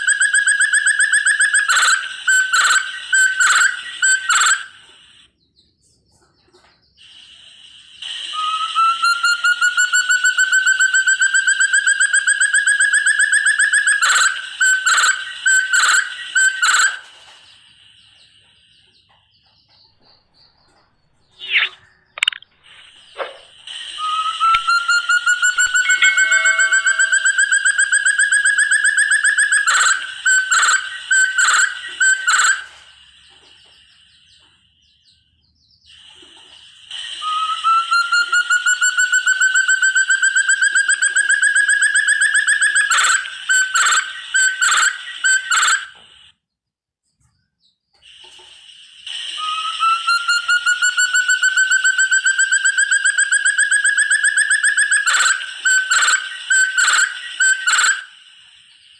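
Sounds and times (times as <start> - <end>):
partridge whistled calls: 0.0 - 46.4, 47.6 - 58.9.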